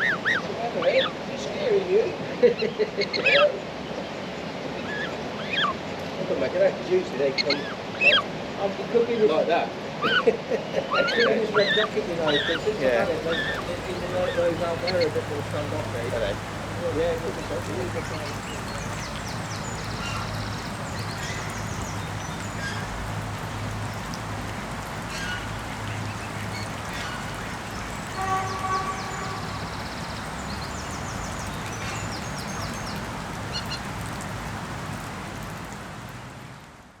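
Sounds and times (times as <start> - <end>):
waterfowl calling: 0.0 - 1.3, 2.3 - 5.9, 7.2 - 8.4, 9.9 - 35.7.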